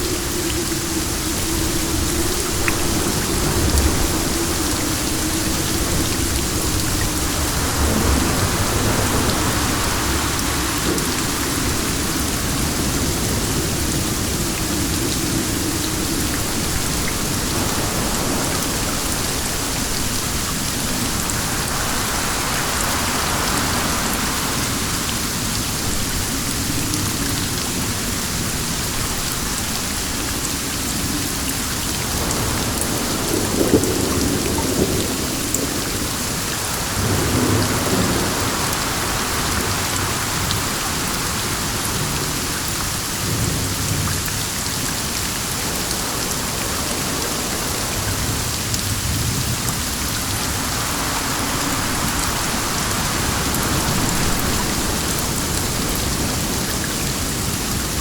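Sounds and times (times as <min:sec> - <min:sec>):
heavy rain hissing: 0:00.0 - 0:58.0
low rumbles of thunder: 0:00.0 - 0:58.0.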